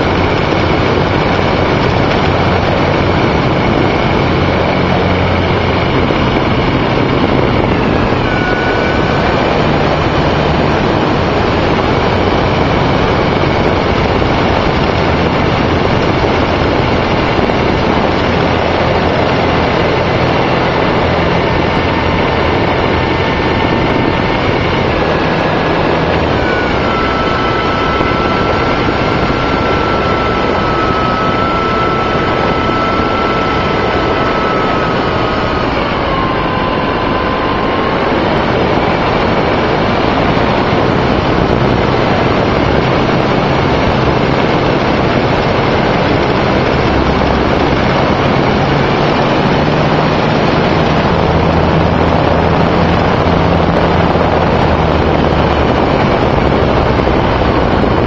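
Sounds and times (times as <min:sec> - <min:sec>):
air rushing over microphone: 0:00.0 - 0:58.0
model plane motor whine: 0:00.0 - 0:58.0.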